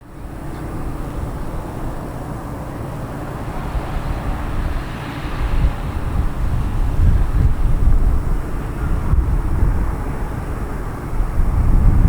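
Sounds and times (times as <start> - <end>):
jet engines passing close: 0.0 - 12.0.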